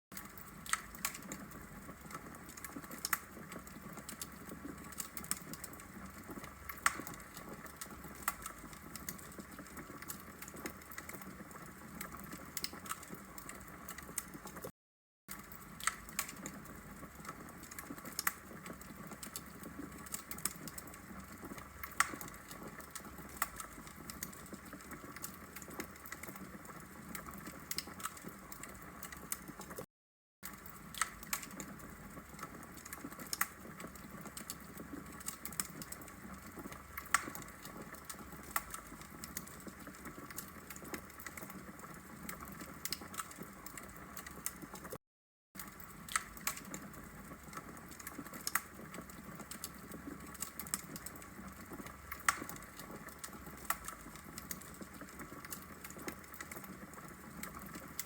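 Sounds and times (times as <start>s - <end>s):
fire crackling and popping: 0.1s - 14.7s, 15.3s - 45.0s, 45.6s - 58.0s.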